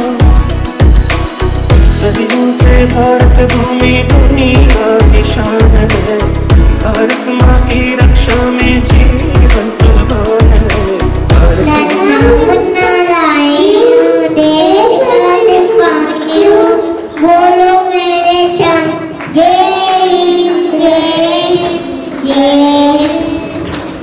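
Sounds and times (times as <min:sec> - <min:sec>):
boys singing: 0:01.8 - 0:23.6.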